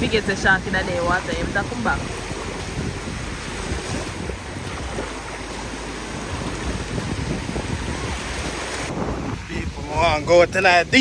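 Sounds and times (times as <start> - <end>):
ocean surf on beach: 0.0 - 11.0
wind buffeting microphone: 0.0 - 11.0.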